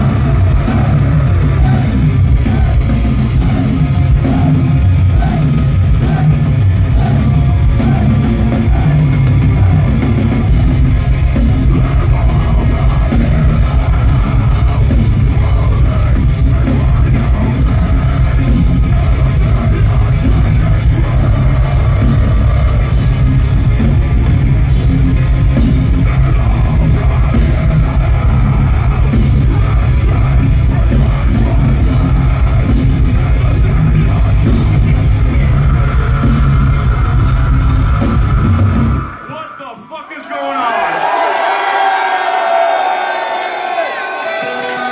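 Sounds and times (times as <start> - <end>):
distorted electric guitars: 0.0 - 39.4
pounding drum kit: 0.0 - 39.4
vocals: 0.0 - 44.9.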